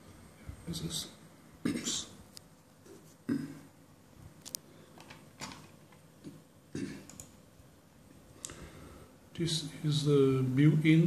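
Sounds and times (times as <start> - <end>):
low room hiss: 0.0 - 11.0.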